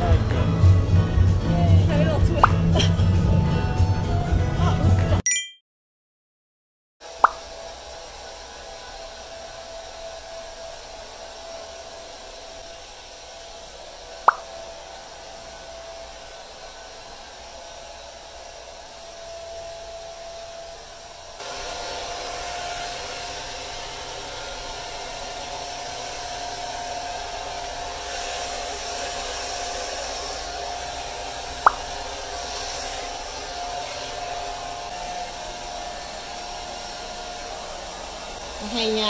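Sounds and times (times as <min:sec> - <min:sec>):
hair dryer running: 0:07.0 - 0:39.0.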